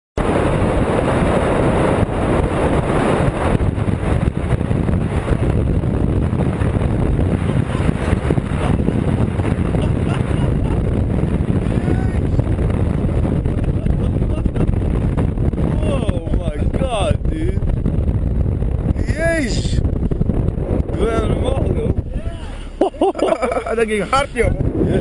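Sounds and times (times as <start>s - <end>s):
wind on microphone: 0.2s - 25.0s.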